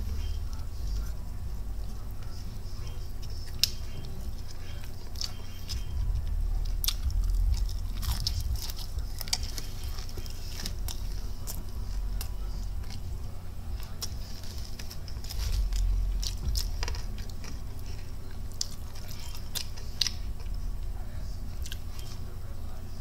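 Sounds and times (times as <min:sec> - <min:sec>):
chewing crispy chicken: 0:00.0 - 0:23.0.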